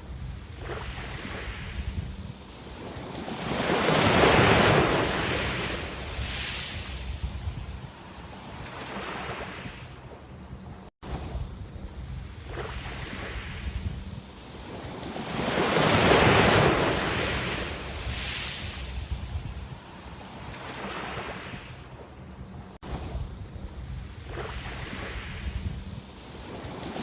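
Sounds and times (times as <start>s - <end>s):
sea waves breaking: 0.0s - 27.0s
wind rumble on microphone: 0.0s - 27.0s.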